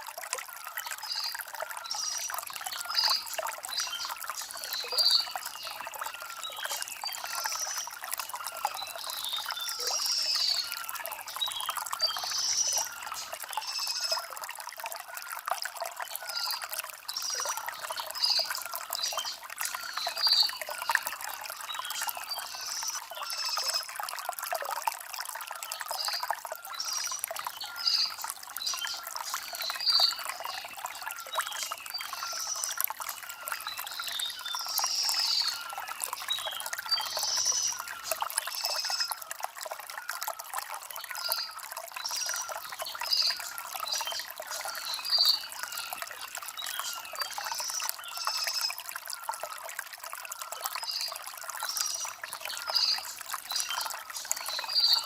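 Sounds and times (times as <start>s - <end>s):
stream trickling over stones: 0.0s - 55.0s
small birds chirping: 0.7s - 14.3s, 16.1s - 23.9s, 25.6s - 39.1s, 40.9s - 48.8s, 50.6s - 55.0s.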